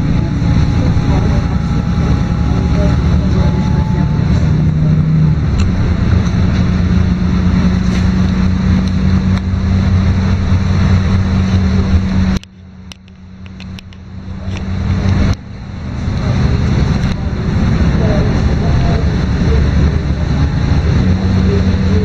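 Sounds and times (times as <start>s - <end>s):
bus engine drone: 0.0s - 22.0s
road rumble: 0.0s - 22.0s.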